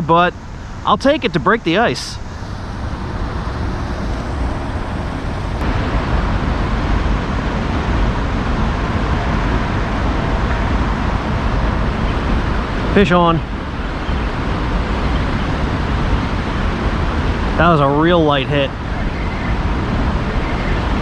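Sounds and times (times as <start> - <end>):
outdoor rumble and hiss: 0.0 - 21.0.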